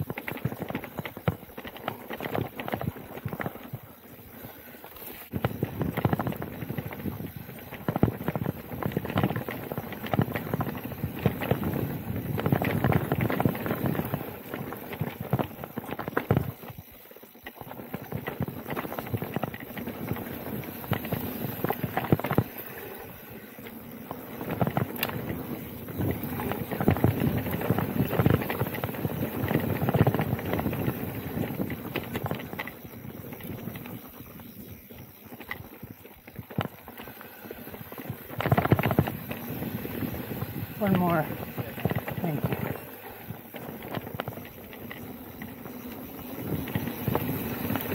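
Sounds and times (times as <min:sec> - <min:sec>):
mountain bike rattling and knocking: 0:00.0 - 0:47.9.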